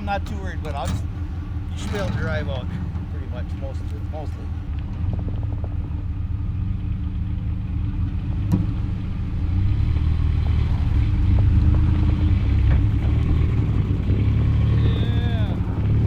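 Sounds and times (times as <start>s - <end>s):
vehicle engine running under load: 0.0s - 16.0s.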